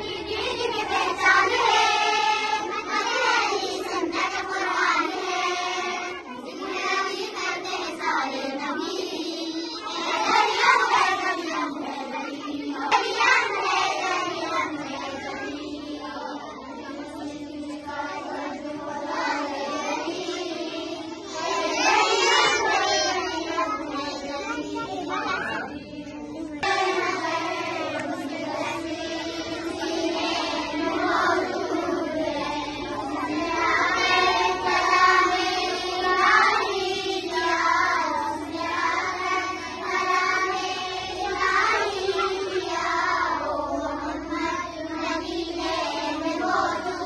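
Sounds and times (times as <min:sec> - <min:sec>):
girls singing devotional song: 0:00.0 - 0:47.0.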